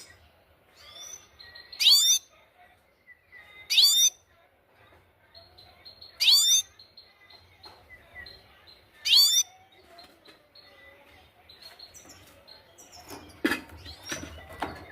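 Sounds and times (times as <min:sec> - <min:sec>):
faint bird chirps: 0:00.0 - 0:04.4, 0:05.2 - 0:14.6.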